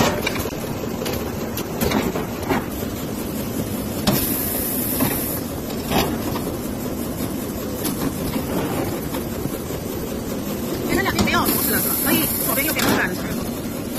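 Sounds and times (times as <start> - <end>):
machine mechanical clatter: 0.0 - 13.9.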